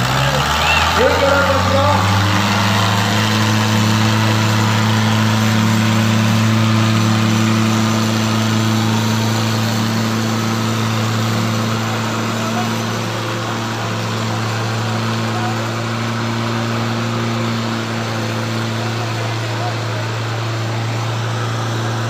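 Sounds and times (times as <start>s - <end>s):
tractor engines at high revs: 0.0s - 22.0s.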